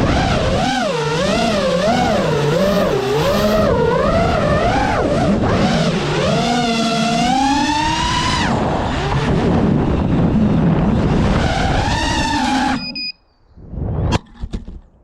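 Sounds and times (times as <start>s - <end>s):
quadcopter motors whining: 0.0s - 13.1s.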